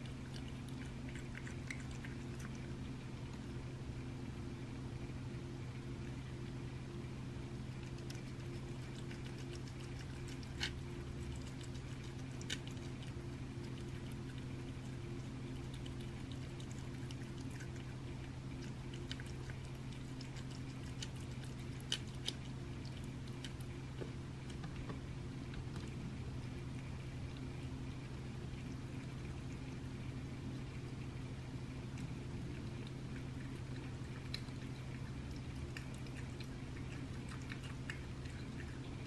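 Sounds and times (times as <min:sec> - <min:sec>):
cat licking and chewing: 0:00.0 - 0:39.0.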